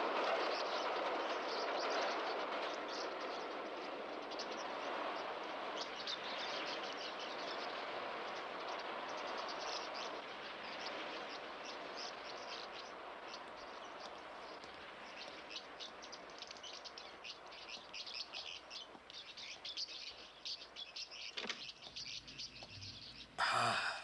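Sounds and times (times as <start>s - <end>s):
small birds chirping: 0.4s - 24.0s.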